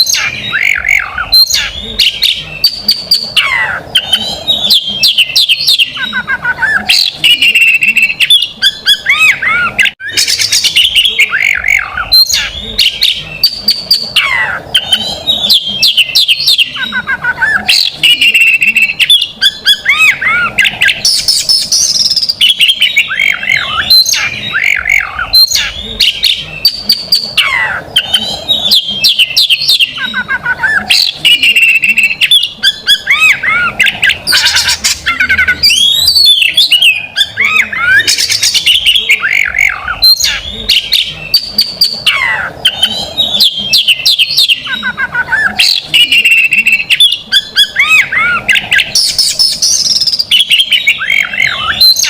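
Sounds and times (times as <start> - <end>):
songbird singing trills and whistles: 0.0 - 52.0.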